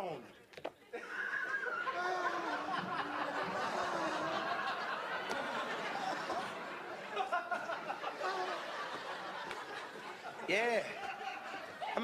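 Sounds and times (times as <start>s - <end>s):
audience laughing: 0.9s - 12.0s.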